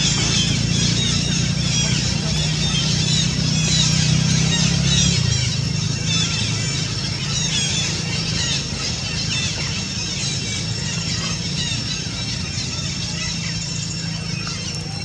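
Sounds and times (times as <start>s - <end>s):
high chirping calls: 0.0s - 15.0s
low motor hum: 0.0s - 15.0s.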